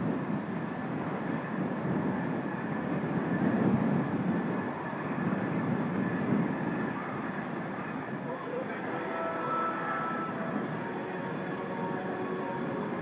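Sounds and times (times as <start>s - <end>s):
faint high whine of jet: 0.0s - 13.0s
wind buffeting microphone: 0.0s - 13.0s.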